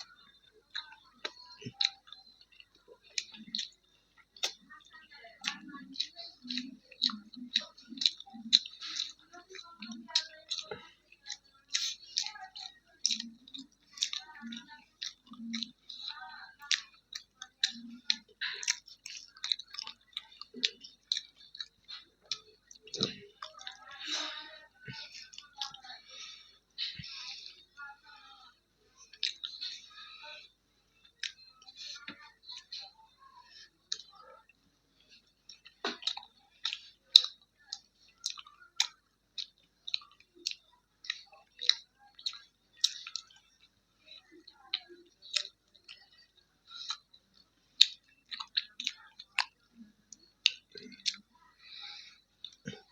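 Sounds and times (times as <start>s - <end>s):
wet chewing smacks and clicks: 0.0s - 52.9s.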